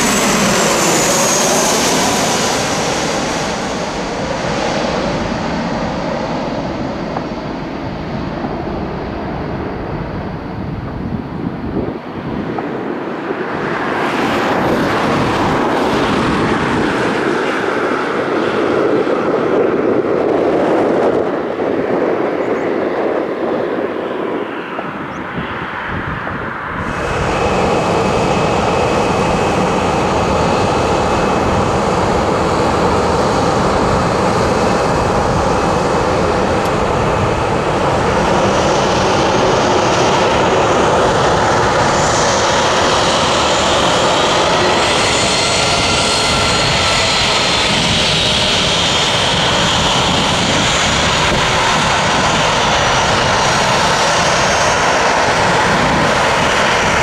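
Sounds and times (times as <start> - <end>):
jet engine rushing: 0.0 - 57.0.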